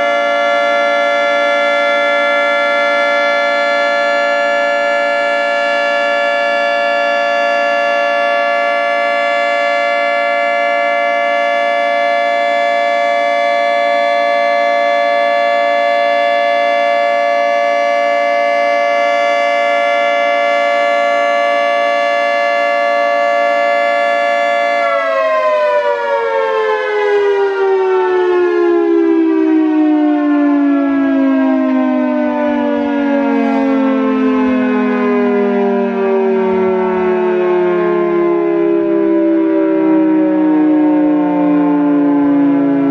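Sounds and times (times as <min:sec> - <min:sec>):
three-tone warning siren: 0:00.0 - 0:42.9.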